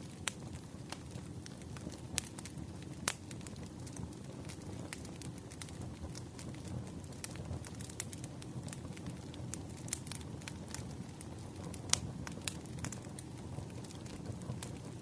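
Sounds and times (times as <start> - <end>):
campfire pops and snaps: 0.0 - 15.0
low rumble of burning wood: 0.0 - 15.0.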